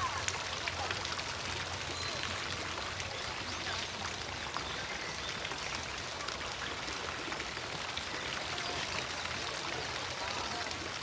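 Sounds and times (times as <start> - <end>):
fountain water rushing: 0.0 - 11.0.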